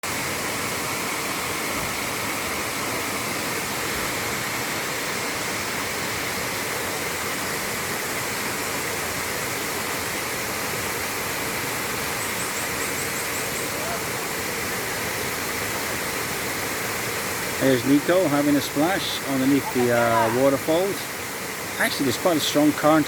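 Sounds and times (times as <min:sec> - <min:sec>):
waterfall roaring: 0:00.1 - 0:23.0.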